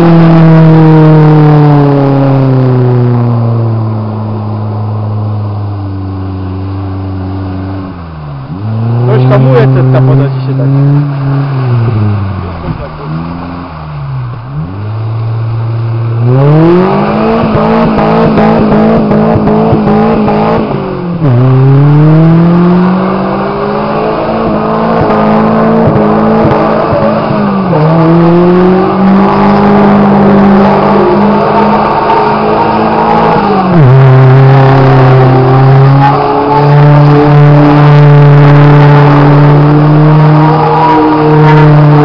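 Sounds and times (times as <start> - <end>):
car engine revving hard: 0.0 - 42.0.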